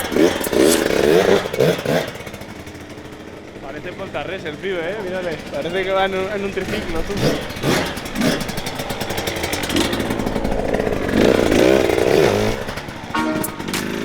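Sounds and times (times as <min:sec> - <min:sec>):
two-stroke motocross bike revving: 0:00.0 - 0:14.0.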